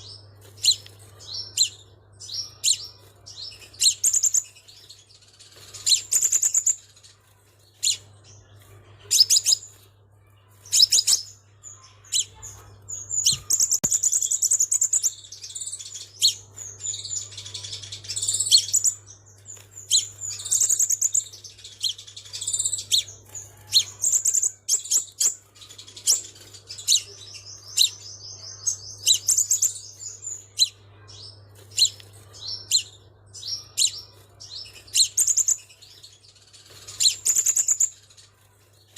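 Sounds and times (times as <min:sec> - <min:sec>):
sunbird twittering song: 0:00.0 - 0:38.9.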